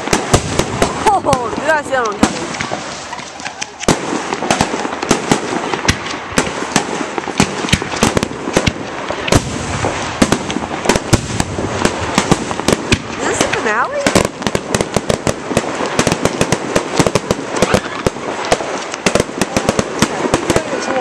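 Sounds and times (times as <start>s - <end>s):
crackling hiss of rockets: 0.0s - 21.0s
fireworks bangs: 0.0s - 21.0s.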